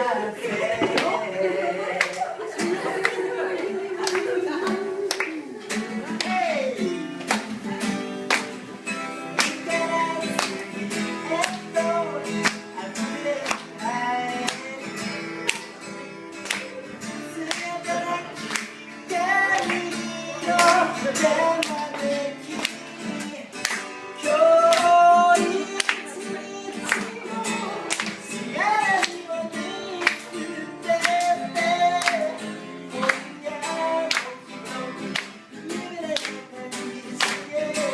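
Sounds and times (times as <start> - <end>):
acoustic guitar strumming: 0.0 - 37.9
person singing: 0.0 - 37.9.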